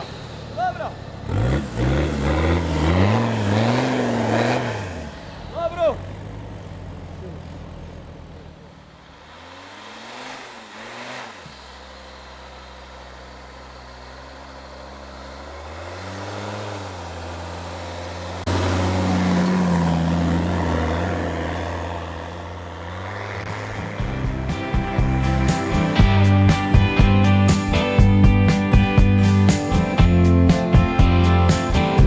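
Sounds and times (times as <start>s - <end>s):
engine revving: 0.0s - 32.0s.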